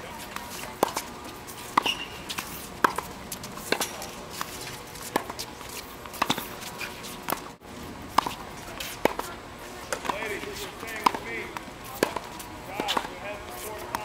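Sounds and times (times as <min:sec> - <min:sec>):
rackets hitting tennis ball: 0:00.1 - 0:14.0.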